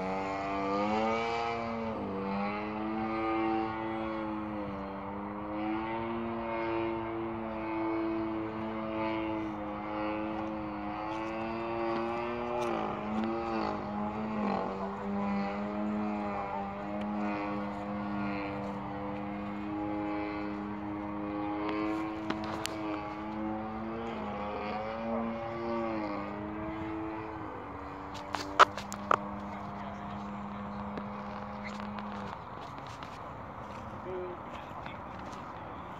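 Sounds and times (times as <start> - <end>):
model airplane engine droning: 0.0 - 35.9.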